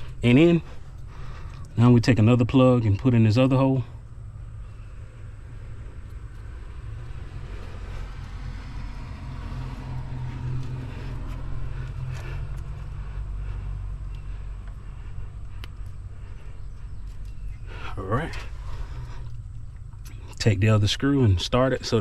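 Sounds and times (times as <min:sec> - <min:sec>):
vehicle passing: 0:00.0 - 0:22.0.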